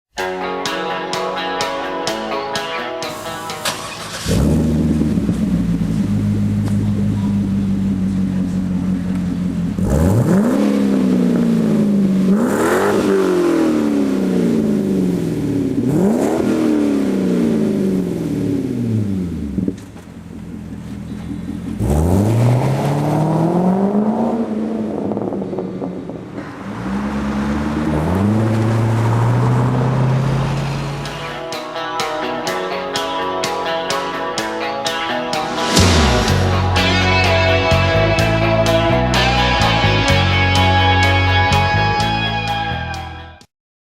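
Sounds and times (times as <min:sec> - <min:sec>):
car engine revving: 0:03.0 - 0:43.0.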